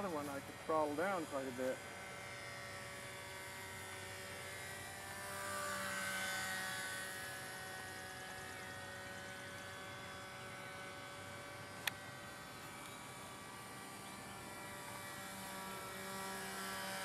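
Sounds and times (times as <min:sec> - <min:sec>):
model plane motor buzzing whine: 0:00.0 - 0:17.0.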